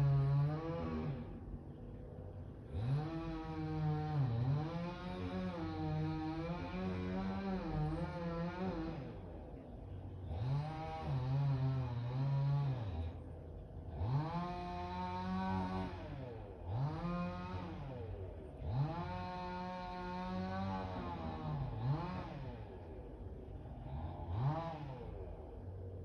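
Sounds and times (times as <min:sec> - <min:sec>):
chainsaw engine revving: 0:00.0 - 0:01.4, 0:02.6 - 0:09.2, 0:10.2 - 0:13.2, 0:13.9 - 0:23.0, 0:23.7 - 0:25.8.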